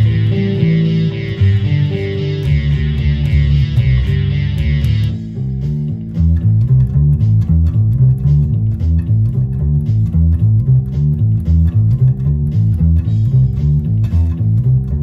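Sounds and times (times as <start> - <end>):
electric bass guitar riff: 0.0 - 15.0.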